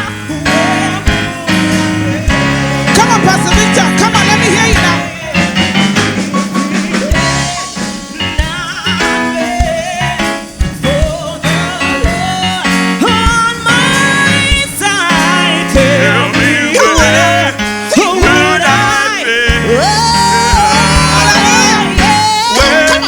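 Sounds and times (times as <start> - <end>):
gospel band playing: 0.0 - 23.0
person singing: 0.0 - 23.0.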